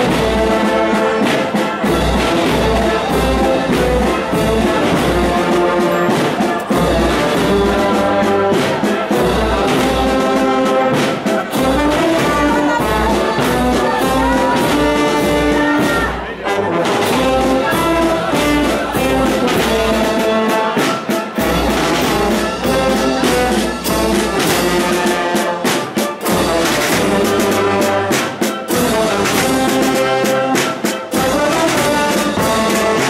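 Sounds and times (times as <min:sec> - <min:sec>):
brass band playing a march: 0:00.0 - 0:33.0
snare and bass drums: 0:00.0 - 0:33.0.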